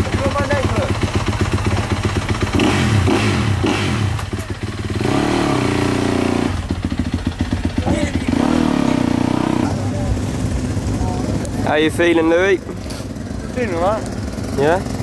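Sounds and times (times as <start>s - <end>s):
dirt bike engine idling and revving: 0.0s - 15.0s.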